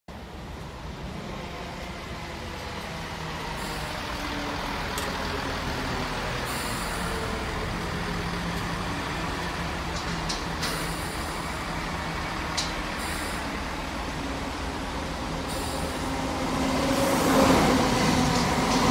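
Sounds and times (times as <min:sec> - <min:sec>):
diesel train engine drone: 0:00.1 - 0:18.9.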